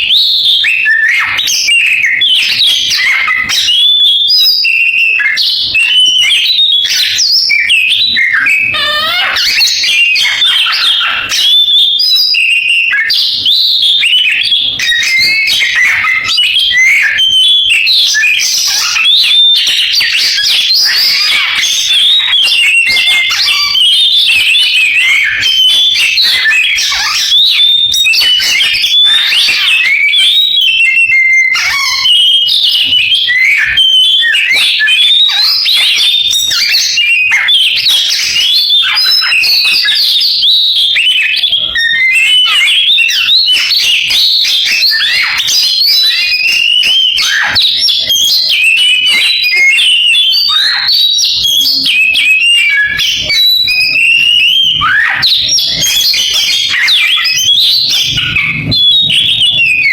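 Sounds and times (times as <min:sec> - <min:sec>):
bird singing whistles and trills: 0:00.0 - 0:59.9.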